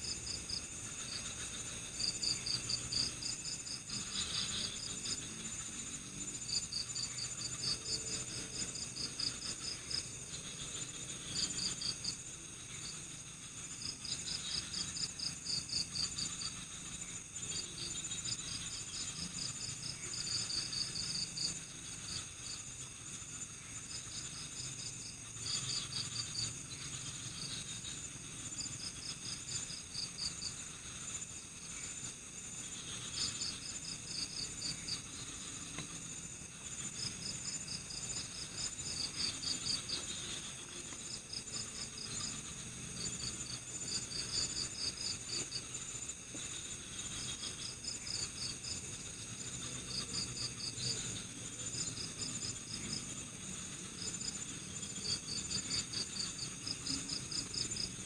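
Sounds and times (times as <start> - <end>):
crickets chirping: 0.0 - 58.0
high-pitched insect drone: 0.0 - 58.0.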